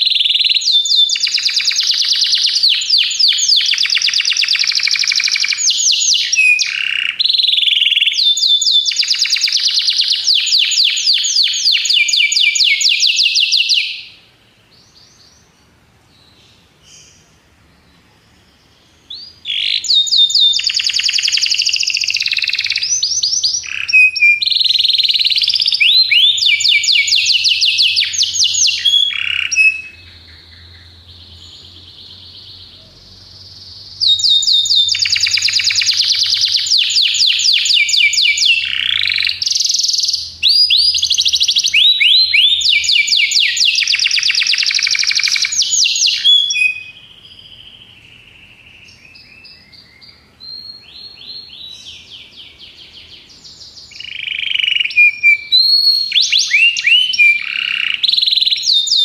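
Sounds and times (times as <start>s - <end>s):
canary singing fast high trills: 0.0s - 15.6s, 18.4s - 59.0s.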